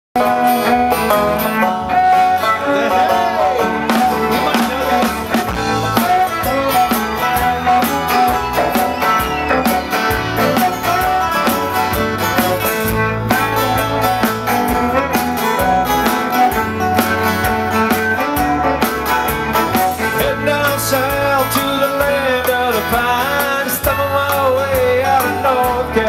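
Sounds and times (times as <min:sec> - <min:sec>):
live country bluegrass band: 0:00.2 - 0:26.0
strummed acoustic guitar: 0:00.2 - 0:26.0.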